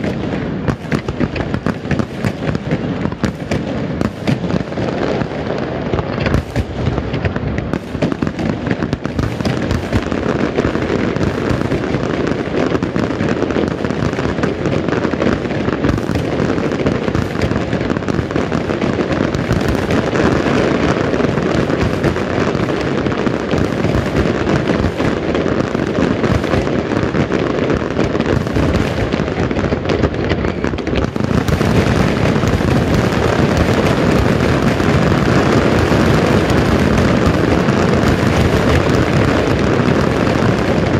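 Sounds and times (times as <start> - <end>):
fireworks bursting: 0.0 - 40.9.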